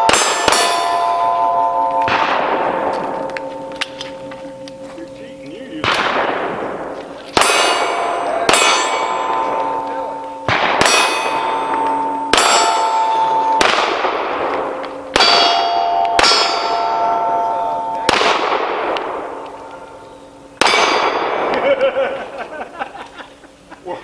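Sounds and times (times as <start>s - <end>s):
pistol shots: 0.0s - 4.8s, 5.8s - 21.6s
steel plate ringing clang: 0.0s - 22.0s.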